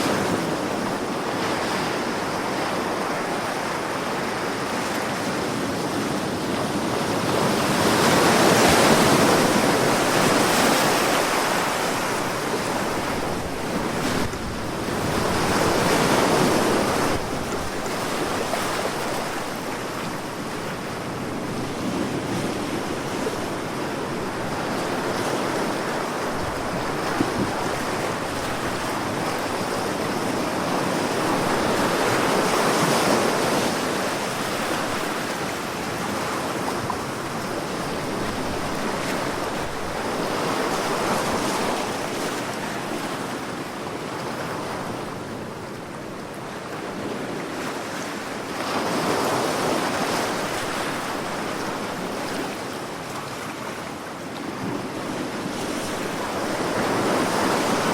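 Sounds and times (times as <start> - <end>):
wind on microphone: 0.0 - 47.9
sea waves breaking: 0.0 - 57.9.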